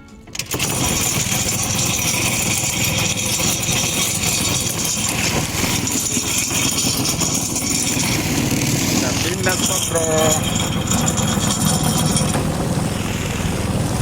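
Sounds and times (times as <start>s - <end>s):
boat motor running: 0.3s - 14.0s.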